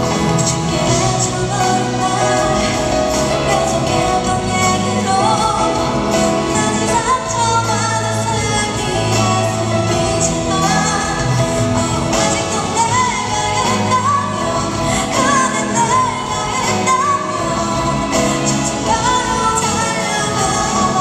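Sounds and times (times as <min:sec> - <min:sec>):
live band accompaniment: 0:00.0 - 0:21.0
woman singing pop ballad: 0:00.0 - 0:21.0.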